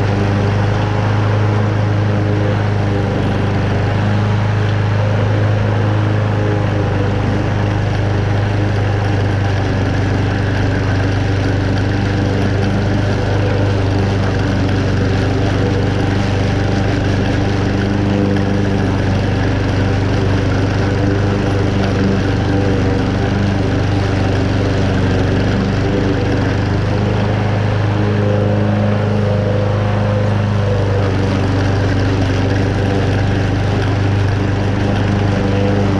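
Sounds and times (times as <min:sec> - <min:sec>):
lawn mower engine cutting grass: 0:00.0 - 0:35.9.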